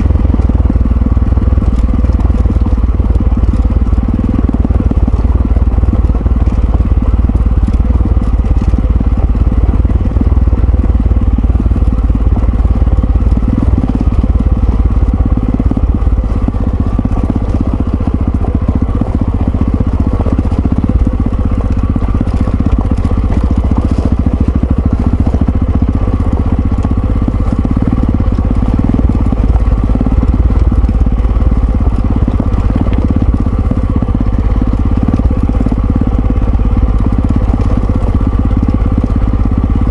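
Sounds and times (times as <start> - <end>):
loud ride rumble: 0.0 - 39.9
motorcycle engine running: 0.0 - 39.9.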